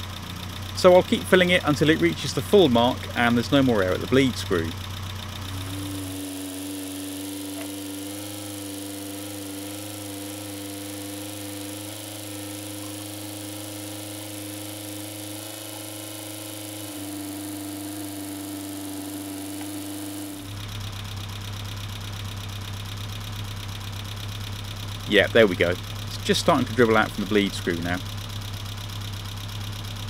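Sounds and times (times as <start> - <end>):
van engine idling: 0.0 - 30.0.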